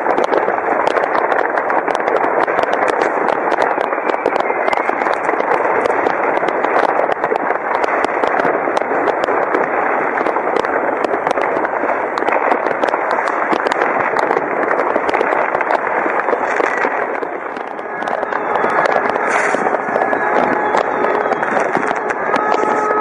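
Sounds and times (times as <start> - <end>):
distant fireworks bangs and crackling: 0.0 - 23.0
sharp firecracker cracks: 0.0 - 23.0.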